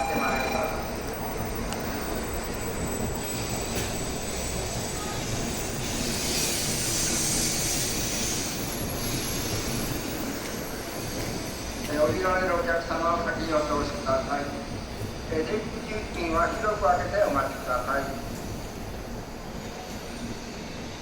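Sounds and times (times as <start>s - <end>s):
train rumbling into station: 0.0s - 21.0s.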